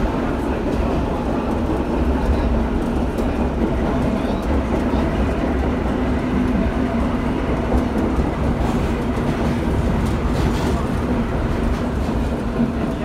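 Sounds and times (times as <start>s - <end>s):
subway train rumbling in tunnel: 0.0s - 13.0s.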